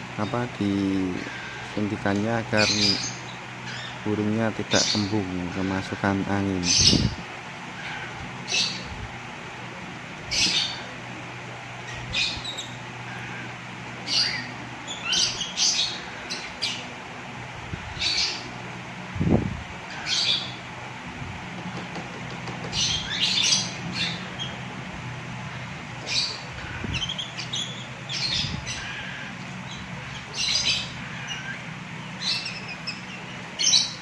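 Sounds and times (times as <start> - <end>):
steady low hum: 0.0 - 34.0
young birds begging calls: 0.0 - 34.0.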